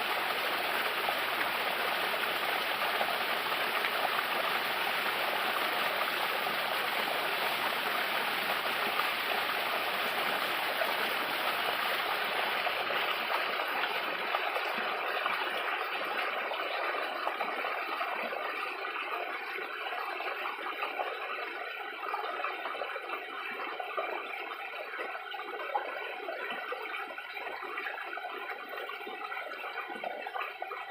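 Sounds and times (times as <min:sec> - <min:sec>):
small waterfall splashing: 0:00.0 - 0:30.9
water trickling: 0:00.0 - 0:30.9.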